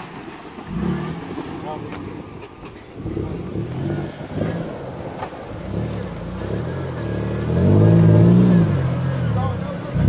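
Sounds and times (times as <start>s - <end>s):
pickup truck engine revving: 0.0s - 10.0s.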